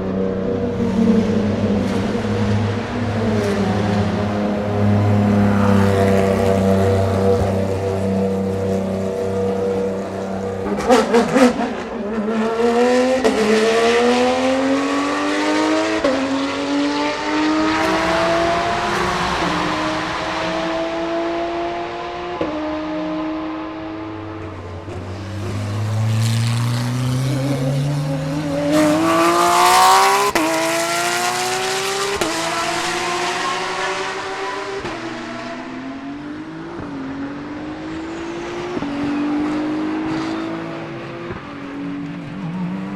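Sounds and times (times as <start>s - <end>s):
race car engine at full throttle: 0.0s - 42.9s.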